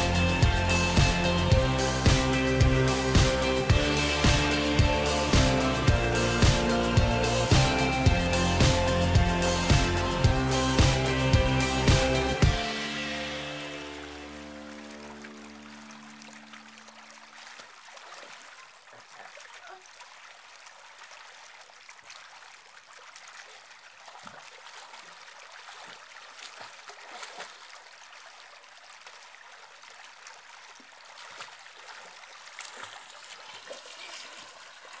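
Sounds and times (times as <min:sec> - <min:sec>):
water splashing from swimming: 0:00.0 - 0:35.0.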